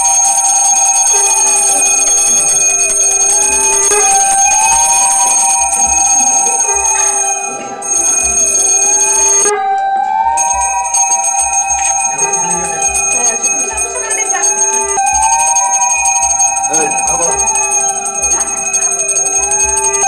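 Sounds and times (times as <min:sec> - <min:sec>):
bell ringing: 0:00.0 - 0:20.0.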